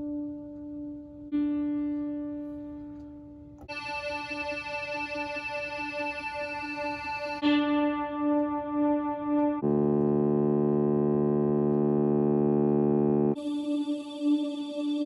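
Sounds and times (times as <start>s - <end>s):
keyboard playing held notes: 0.0s - 13.4s.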